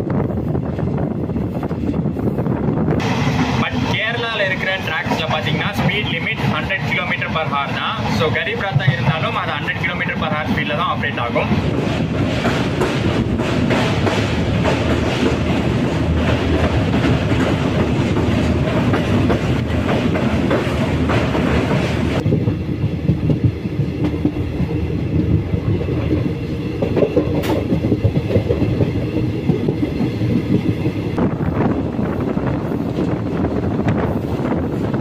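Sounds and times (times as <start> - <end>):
clickety-clack over rail joints: 0.0 - 2.2, 2.8 - 35.0
train wheels rumbling on rails: 0.0 - 35.0.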